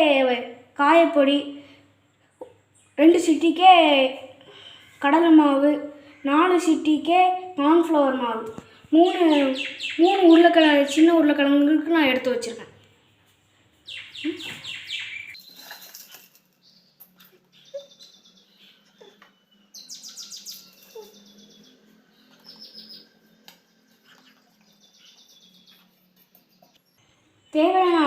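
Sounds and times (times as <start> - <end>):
birds chirping: 1.9 - 28.0.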